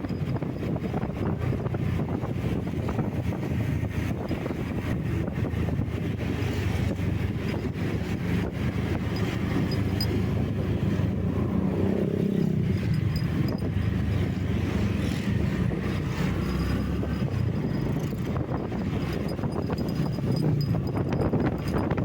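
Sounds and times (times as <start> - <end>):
road and wind noise: 0.0 - 22.0
vehicle engine running: 0.0 - 22.0.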